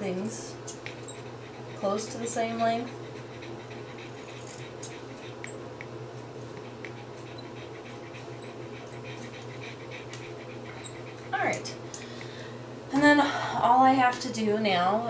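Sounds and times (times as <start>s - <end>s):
dog panting: 0.0s - 12.3s
low steady hum: 0.0s - 15.0s.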